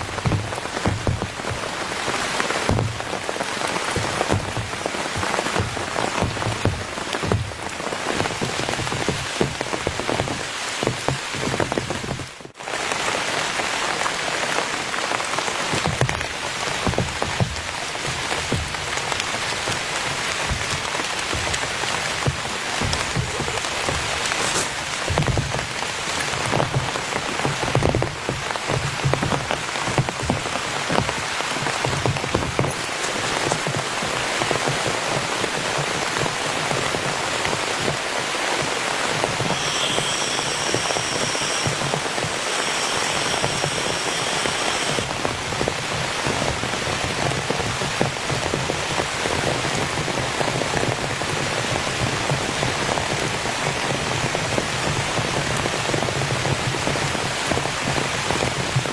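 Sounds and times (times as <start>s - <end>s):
heavy rain on a tent: 0.0s - 58.9s.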